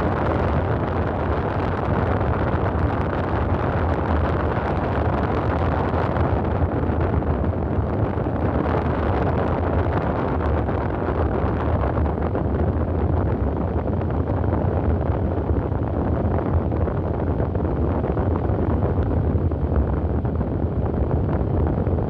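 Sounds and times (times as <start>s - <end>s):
highway traffic rumble: 0.0s - 22.0s.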